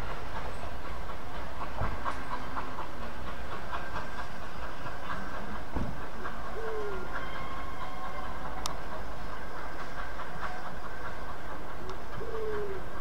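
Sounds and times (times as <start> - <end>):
train rumbling over rails: 0.0 - 13.0.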